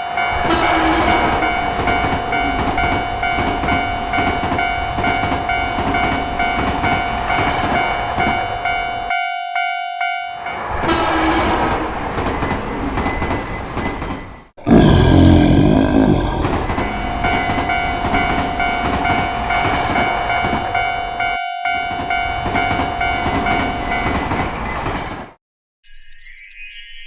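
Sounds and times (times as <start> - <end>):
train wheels rumbling: 0.0 - 9.1, 10.3 - 14.6, 16.4 - 25.3
level-crossing warning bell ringing: 0.0 - 14.5, 16.5 - 26.3.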